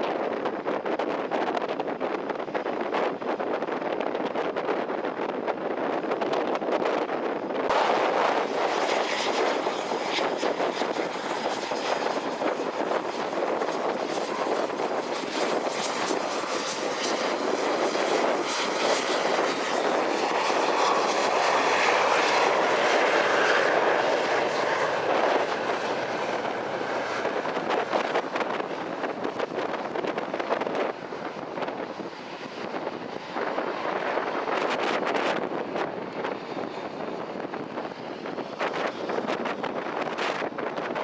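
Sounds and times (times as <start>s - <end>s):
jet engines roaring: 0.0s - 41.0s
wind buffeting microphone: 0.0s - 41.0s.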